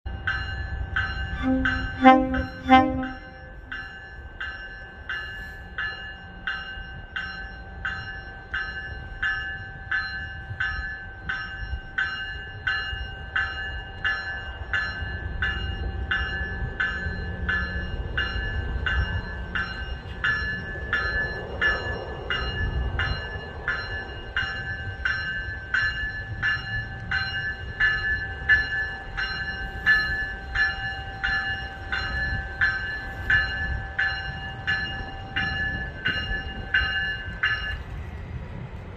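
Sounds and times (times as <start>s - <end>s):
railway warning bell ringing: 0.1s - 38.0s
train rumbling past: 0.1s - 38.9s.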